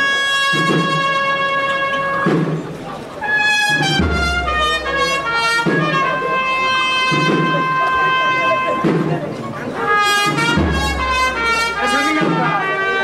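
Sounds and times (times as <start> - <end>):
trumpets holding long notes: 0.0 - 2.4, 3.2 - 9.1, 9.7 - 13.0
brass band playing slow march: 0.0 - 13.0
low drum beat: 0.4 - 12.9.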